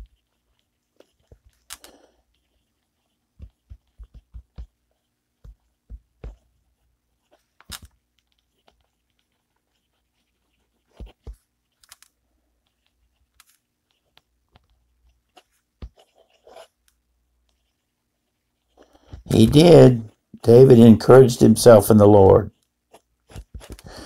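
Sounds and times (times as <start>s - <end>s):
fountain pen scratching on paper: 0.0s - 7.6s, 8.2s - 12.0s, 12.6s - 19.3s, 22.5s - 23.8s.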